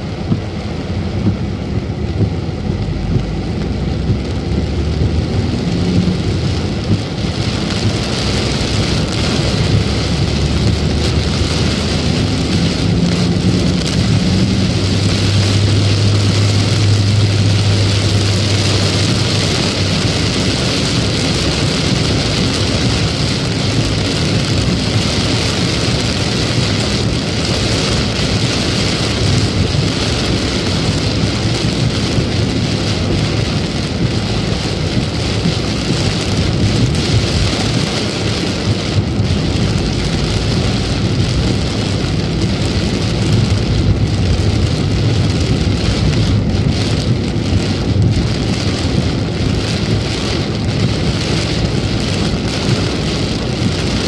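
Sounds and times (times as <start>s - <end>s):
car road noise: 0.0s - 54.0s
heavy rain on car roof: 0.0s - 54.0s.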